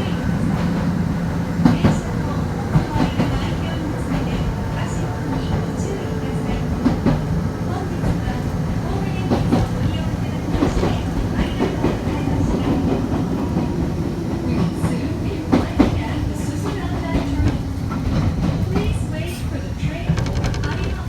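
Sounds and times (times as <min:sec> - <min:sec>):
train rumbling: 0:00.0 - 0:21.0
wheels clacking over rail joints: 0:00.0 - 0:21.0.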